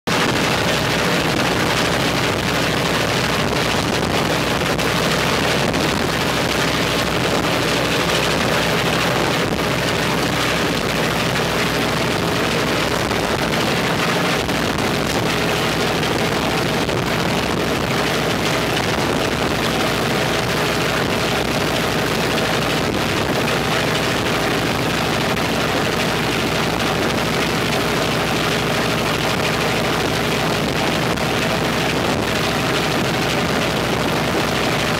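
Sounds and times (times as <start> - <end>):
radial aircraft engine running: 0.0 - 34.9.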